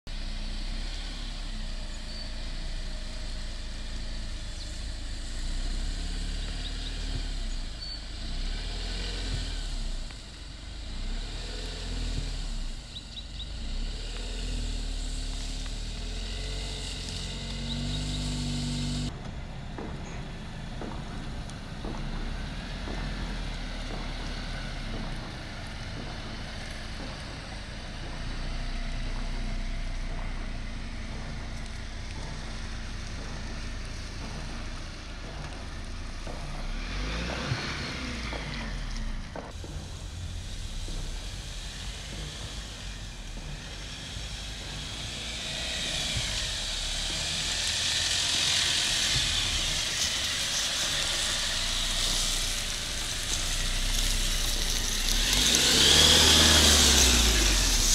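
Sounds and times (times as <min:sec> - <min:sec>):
engine revving under load: 0:00.0 - 0:57.9.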